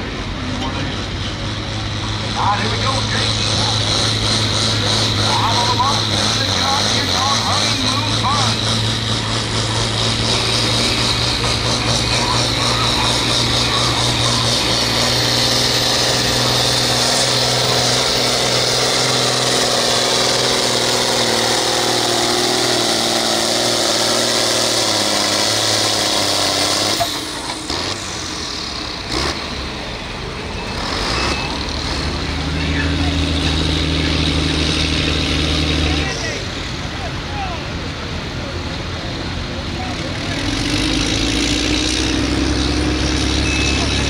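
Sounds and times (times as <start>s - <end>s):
tractor engine running hard: 0.0s - 44.0s.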